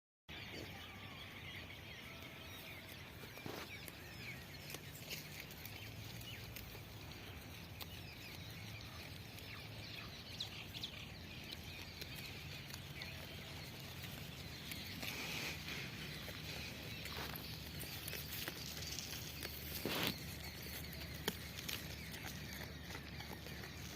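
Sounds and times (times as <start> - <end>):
birds chirping: 0.3 - 23.9.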